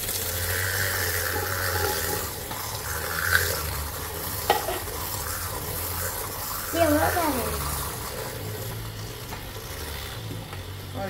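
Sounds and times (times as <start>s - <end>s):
liquid churning: 0.0s - 11.0s
milk frother whirring: 0.0s - 11.0s.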